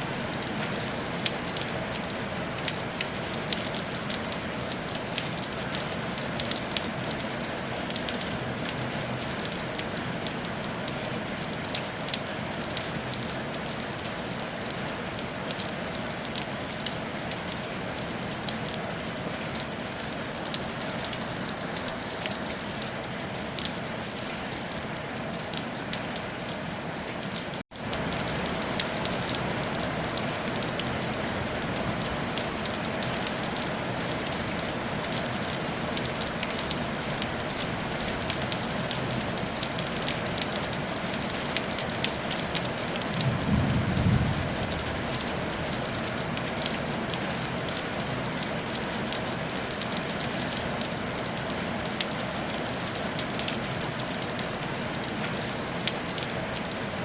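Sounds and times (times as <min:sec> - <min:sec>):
rain on a tile roof: 0:00.0 - 0:57.0.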